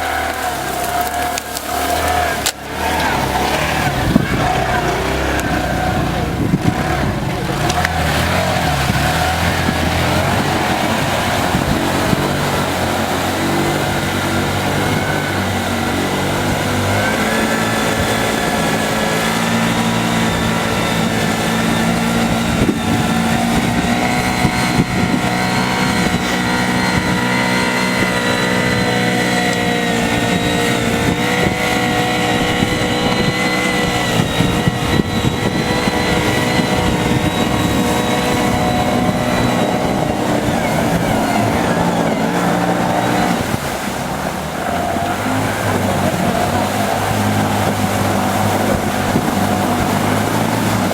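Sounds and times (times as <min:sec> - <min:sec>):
heavy machine engine under load: 0:00.0 - 0:50.9.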